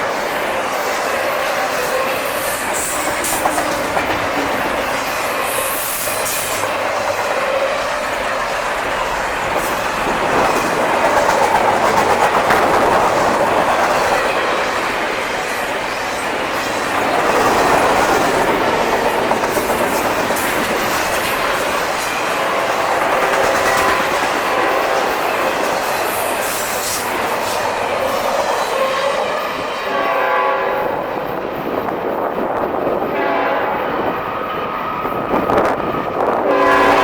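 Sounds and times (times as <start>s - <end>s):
freight train wheels clacking: 0.0s - 30.1s.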